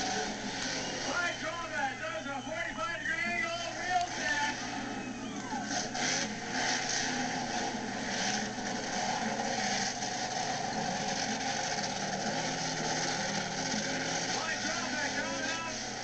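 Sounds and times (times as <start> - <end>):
monster truck engine running: 0.0 - 16.0.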